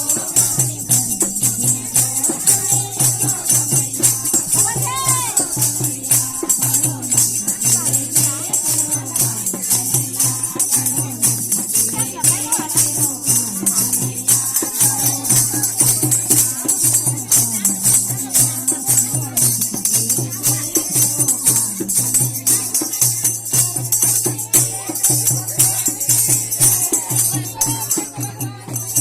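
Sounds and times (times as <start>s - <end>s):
fast steady drum beat: 0.0s - 29.0s
jingling hand percussion: 0.0s - 29.0s.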